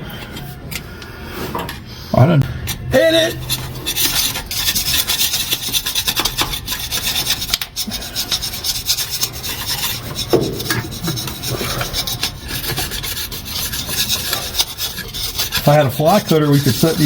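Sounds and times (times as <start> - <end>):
metal scraper rasping on metal: 2.7 - 17.0.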